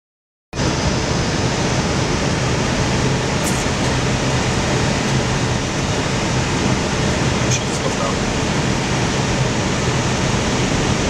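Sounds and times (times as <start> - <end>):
rushing airflow with low hum: 0.6 - 11.0.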